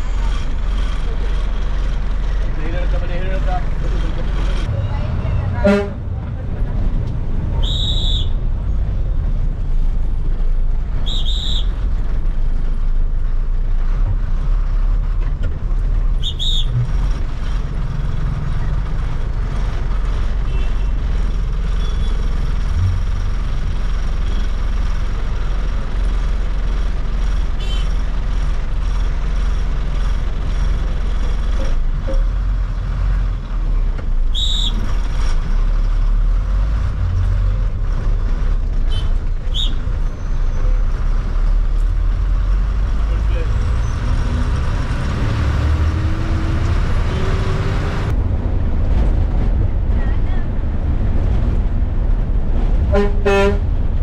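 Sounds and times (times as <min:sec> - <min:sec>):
diesel bus engine rumbling: 0:00.0 - 0:54.0.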